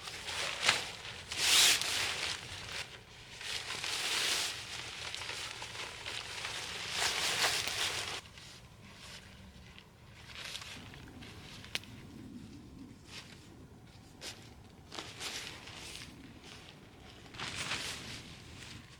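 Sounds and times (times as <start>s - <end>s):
rustling and crinkling handling: 0.0s - 18.9s.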